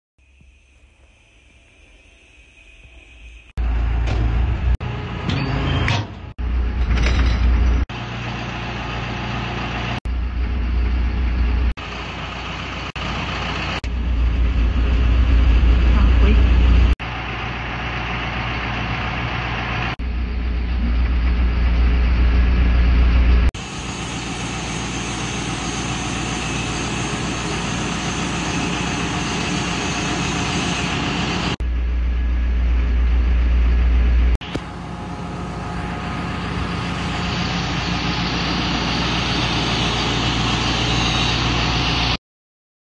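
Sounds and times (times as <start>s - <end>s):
diesel engine running: 3.5s - 42.2s.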